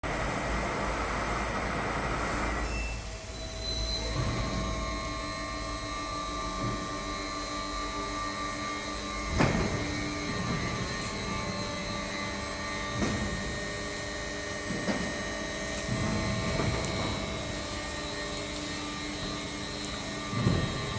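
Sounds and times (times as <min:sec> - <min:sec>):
printing machine humming: 0:00.0 - 0:20.9.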